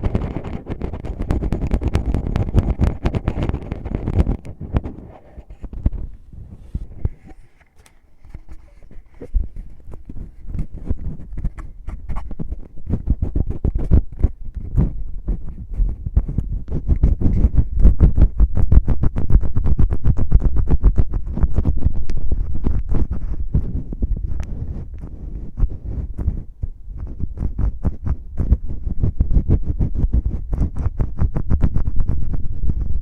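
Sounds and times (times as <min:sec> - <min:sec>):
fingers scratching microphone: 0:00.0 - 0:33.0.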